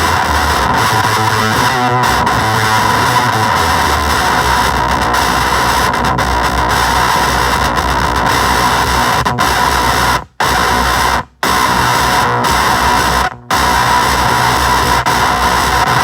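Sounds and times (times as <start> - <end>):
heavily fuzzed electric guitar: 0.0 - 16.0.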